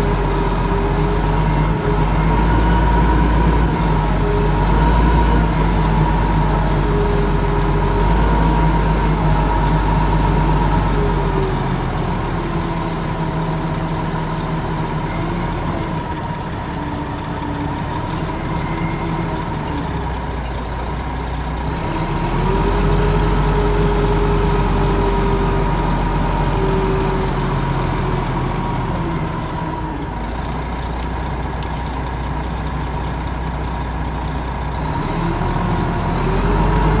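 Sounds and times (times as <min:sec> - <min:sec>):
large machine engine running: 0:00.0 - 0:37.0.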